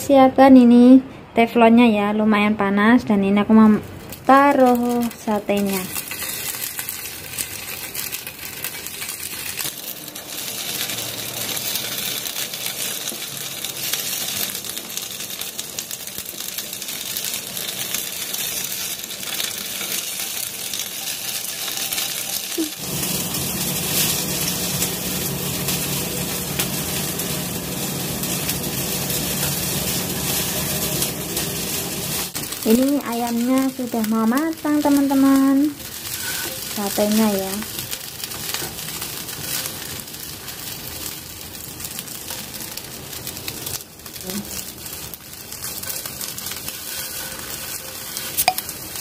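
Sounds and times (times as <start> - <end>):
meat sizzling in a frying pan: 4.0 - 49.0.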